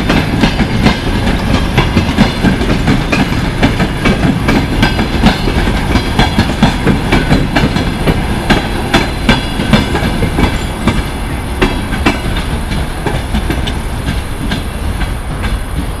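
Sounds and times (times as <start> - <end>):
train rumble: 0.0 - 16.0
train wheels clicking over rail joints: 0.0 - 16.0.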